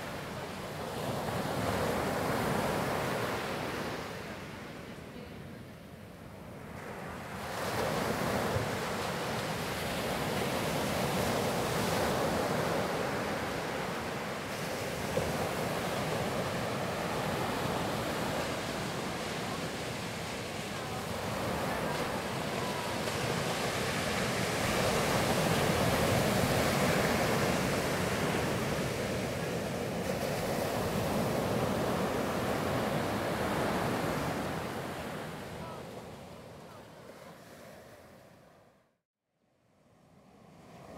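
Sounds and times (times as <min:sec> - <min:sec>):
ocean surf breaking on beach: 0:00.0 - 0:38.2.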